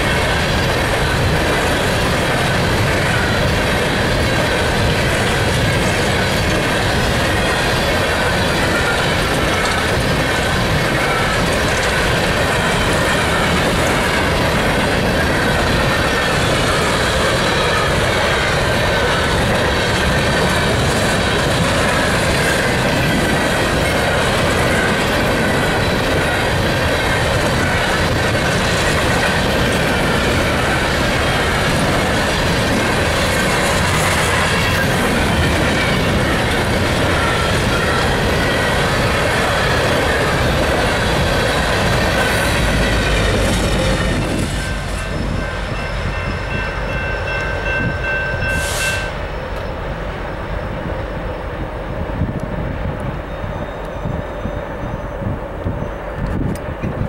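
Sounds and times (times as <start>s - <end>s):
wheel flanges squealing: 0.0s - 51.5s
freight train wheels clattering: 0.0s - 57.0s.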